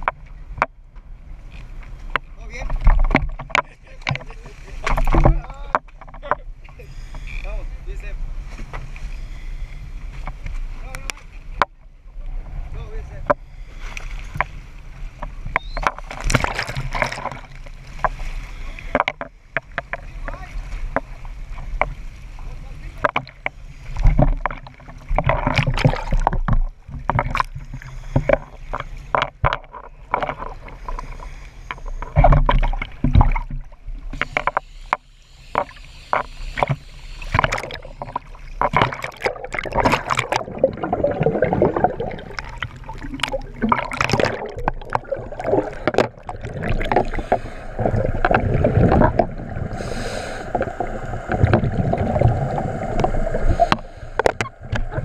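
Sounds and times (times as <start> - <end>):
sea water slapping and splashing: 1.4 - 7.3, 8.0 - 55.0
underwater gurgling: 9.2 - 55.0.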